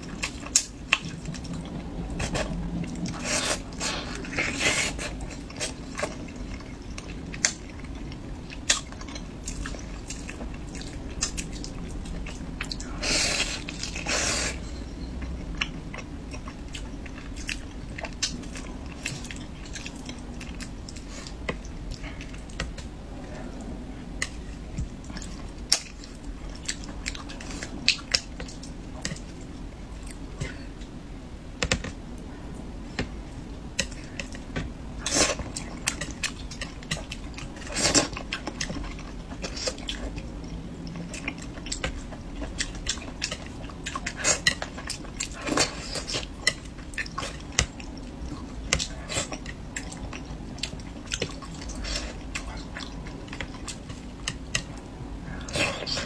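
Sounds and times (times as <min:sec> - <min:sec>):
chewing: 0:00.0 - 0:30.9, 0:31.6 - 0:56.0.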